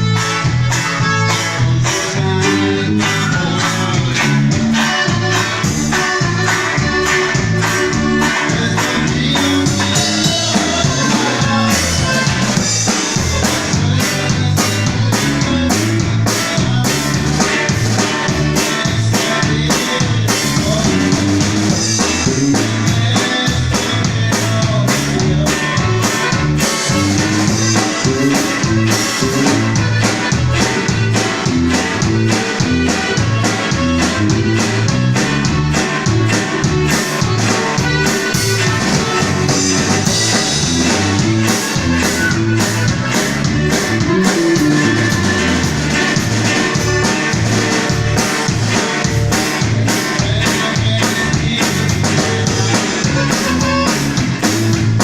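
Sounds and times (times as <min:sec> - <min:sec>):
upbeat music with drums and guitar: 0:00.0 - 0:55.0.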